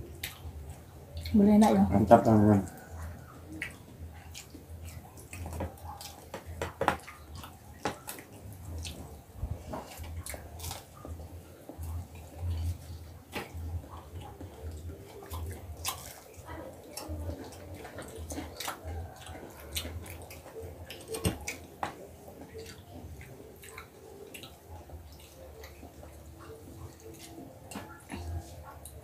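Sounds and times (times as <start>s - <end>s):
people chewing: 0.0s - 29.0s.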